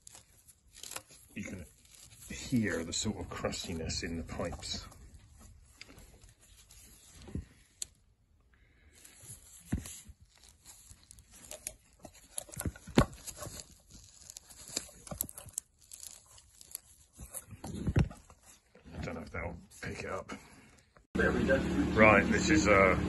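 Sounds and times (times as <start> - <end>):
rubber hoses crackling when squeezed: 0.0 - 21.0.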